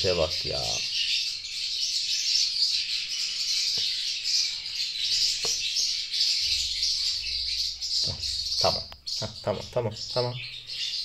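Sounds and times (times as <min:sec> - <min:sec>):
high-pitched chirping chorus: 0:00.0 - 0:11.0.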